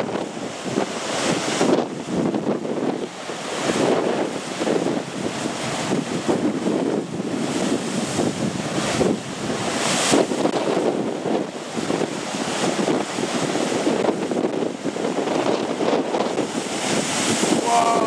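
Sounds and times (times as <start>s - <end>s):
surf crashing against rocks: 0.0s - 18.0s
wind buffeting microphone: 0.0s - 18.0s.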